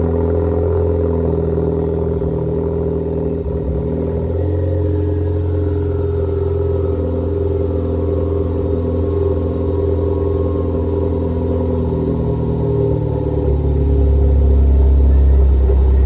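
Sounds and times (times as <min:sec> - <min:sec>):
car engine deep exhaust note: 0:00.0 - 0:16.0.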